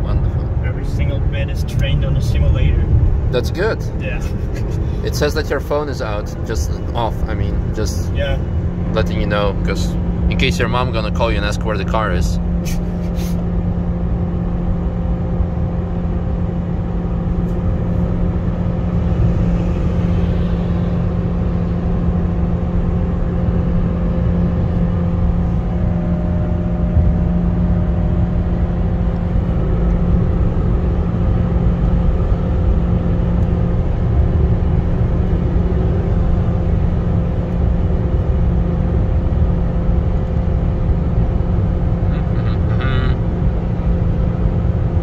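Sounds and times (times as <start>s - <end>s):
car engine drone: 0.0s - 45.0s
tyres rumbling on road: 0.0s - 45.0s.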